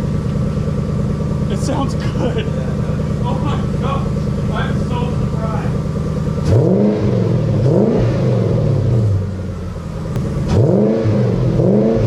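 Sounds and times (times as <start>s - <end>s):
car engine idling: 0.0s - 12.0s
car engine revving: 0.0s - 12.0s.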